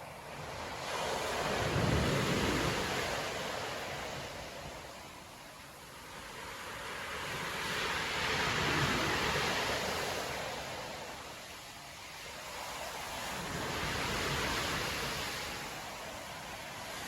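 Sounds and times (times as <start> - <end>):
waves crashing on a beach: 0.0 - 17.0.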